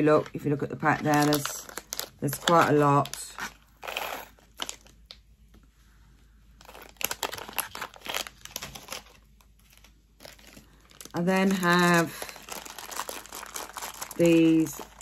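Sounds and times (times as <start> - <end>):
plastic bags crinkling: 0.0 - 5.2, 6.6 - 15.0.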